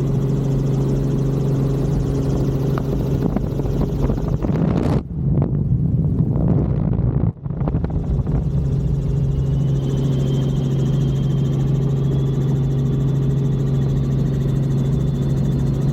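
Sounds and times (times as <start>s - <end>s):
helicopter engine and rotors: 0.0s - 15.9s.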